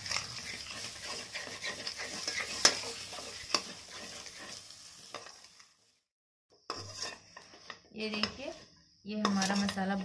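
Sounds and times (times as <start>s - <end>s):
metal spatula scraping a pan: 0.0s - 5.6s, 6.7s - 8.6s, 9.2s - 10.0s
paste sizzling in oil: 0.0s - 10.0s.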